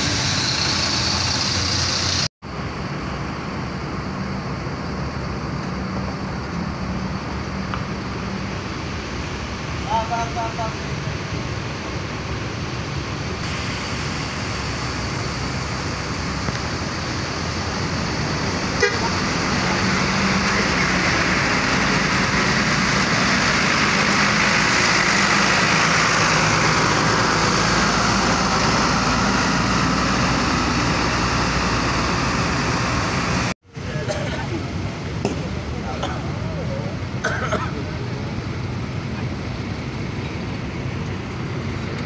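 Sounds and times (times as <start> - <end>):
diesel coach engine passing: 0.0 - 42.0.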